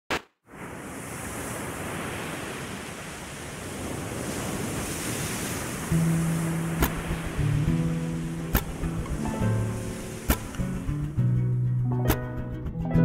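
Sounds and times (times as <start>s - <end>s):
wind: 0.1s - 13.0s
waves breaking on shore: 0.4s - 11.3s.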